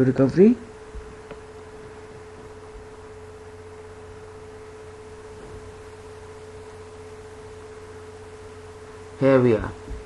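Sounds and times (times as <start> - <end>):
low hum: 0.0 - 10.0
steady electrical whine: 0.0 - 10.0.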